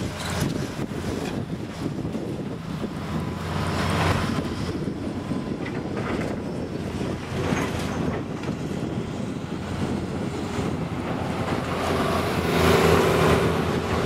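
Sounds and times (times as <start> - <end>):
heavy machinery rumble: 0.0 - 14.0
wind buffeting microphone: 0.0 - 14.0.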